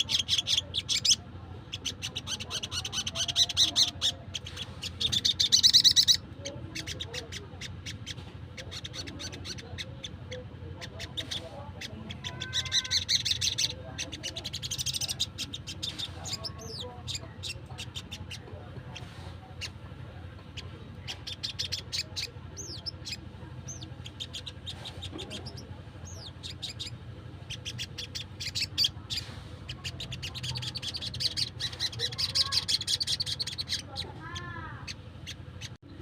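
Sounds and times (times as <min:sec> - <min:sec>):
sunbird calling: 0:00.0 - 0:35.8
steady low hum: 0:00.0 - 0:36.0.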